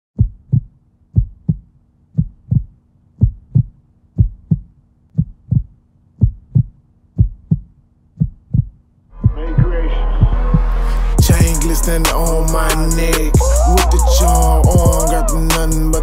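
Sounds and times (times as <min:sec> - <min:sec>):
heartbeat thumps: 0:00.2 - 0:15.7.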